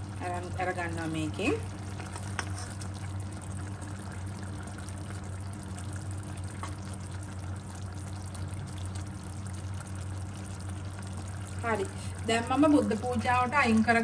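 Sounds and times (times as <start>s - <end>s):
curry simmering in pan: 0.0s - 14.0s
steady low hum: 0.0s - 14.0s.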